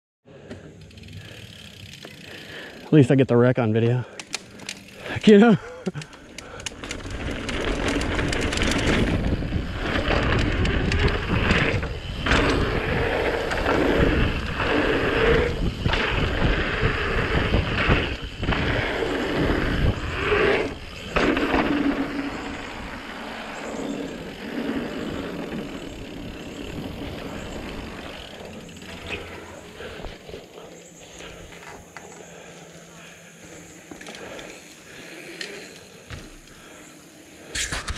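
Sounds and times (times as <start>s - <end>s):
bike tyres rolling over dirt: 0.4s - 37.9s.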